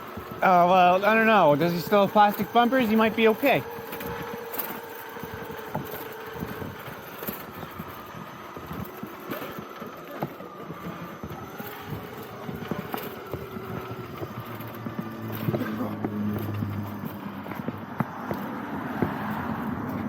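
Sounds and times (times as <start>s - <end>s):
electric motor and gears whining: 0.0s - 20.0s
tyres and chassis clicking: 0.0s - 20.0s.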